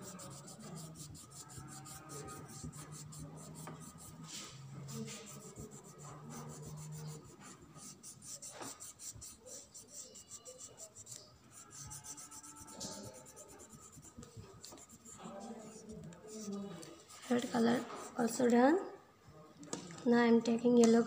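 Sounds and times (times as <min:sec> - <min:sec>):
oil pastel rubbing on paper: 0:00.0 - 0:18.5.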